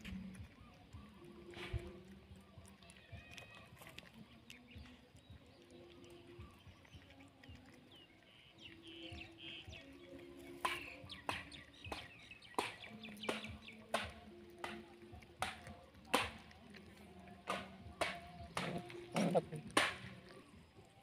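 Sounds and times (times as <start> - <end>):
chickens clucking: 0.0 - 3.0, 3.8 - 20.9
puppies chewing and smacking: 0.0 - 21.0
small birds chirping: 0.0 - 21.0.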